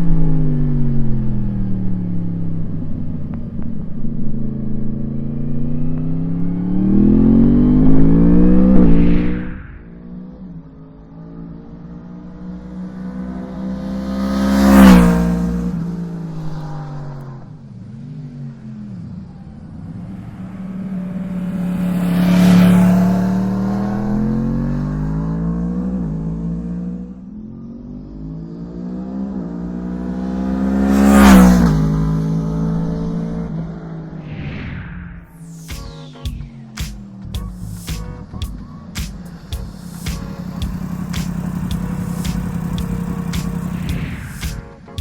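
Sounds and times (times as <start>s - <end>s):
motorcycle engine revving: 0.0s - 10.4s, 11.3s - 34.2s, 36.3s - 45.0s.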